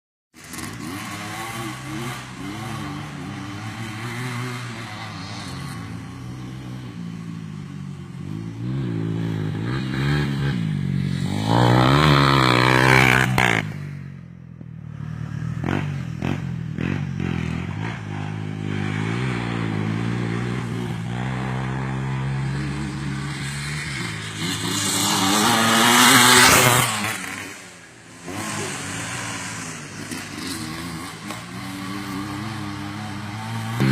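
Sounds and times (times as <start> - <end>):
dirt bike engines revving: 0.4 - 33.9
dirt bike passing by: 0.4 - 33.9.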